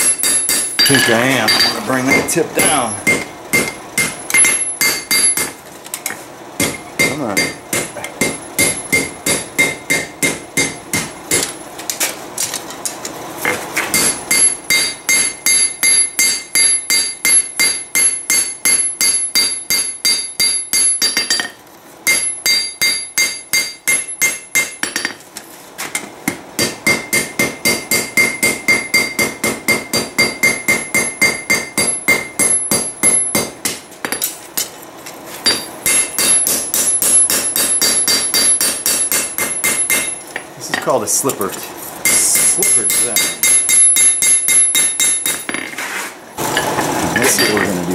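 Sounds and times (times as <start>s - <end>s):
hammer ringing on anvil: 0.0s - 5.5s, 6.6s - 11.6s, 13.9s - 25.1s, 26.3s - 33.8s, 35.4s - 40.9s, 42.0s - 45.5s, 47.2s - 47.7s.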